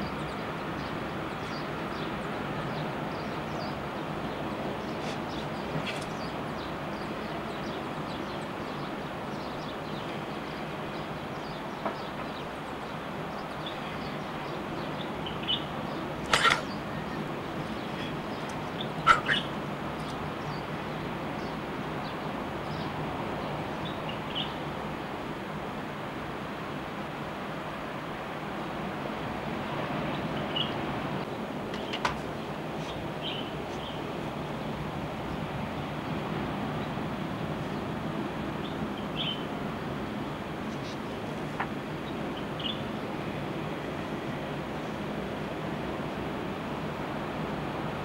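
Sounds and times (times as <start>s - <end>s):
ocean surf: 0.0s - 48.0s
wind: 0.0s - 48.0s.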